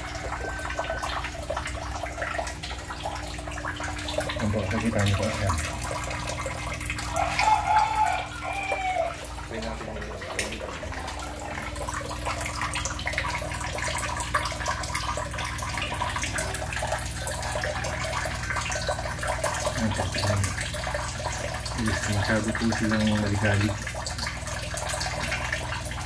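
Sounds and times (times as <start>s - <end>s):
low steady hum: 0.0s - 26.0s
water running into tank: 0.0s - 26.0s.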